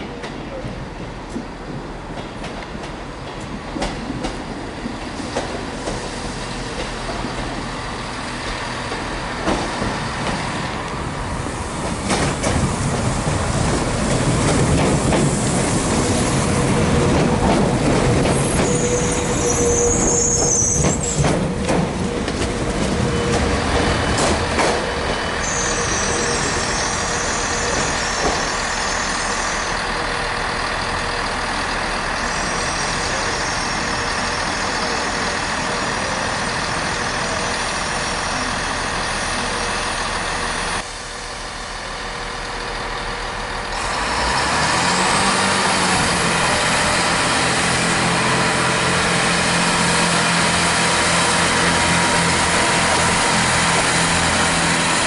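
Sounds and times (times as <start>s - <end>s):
diesel train engine running: 0.0s - 55.0s.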